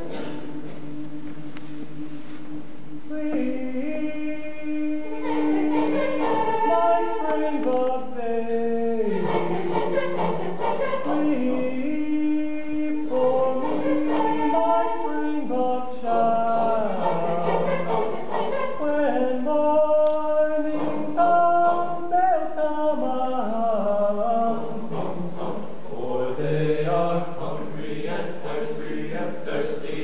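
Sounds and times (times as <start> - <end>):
choir singing in parts: 3.1 - 30.0.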